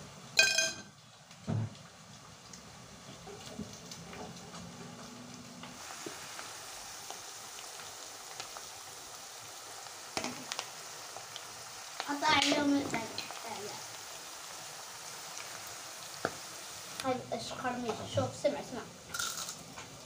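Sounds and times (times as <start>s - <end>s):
potato slices sizzling in oil: 0.0s - 20.0s.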